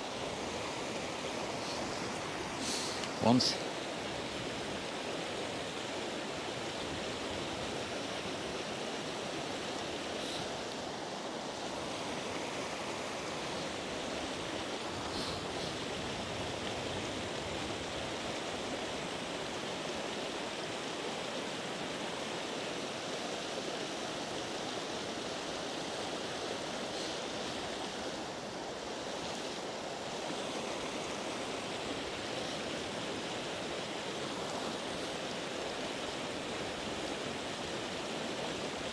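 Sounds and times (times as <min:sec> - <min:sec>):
river rapids rushing over rocks: 0:00.0 - 0:38.9.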